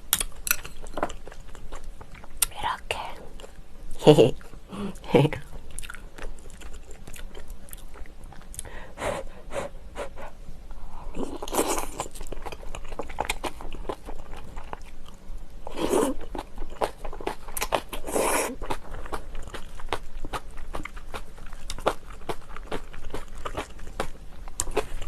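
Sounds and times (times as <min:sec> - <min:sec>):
chewing and crunching food: 0:00.1 - 0:02.5, 0:04.3 - 0:08.8, 0:11.2 - 0:25.0.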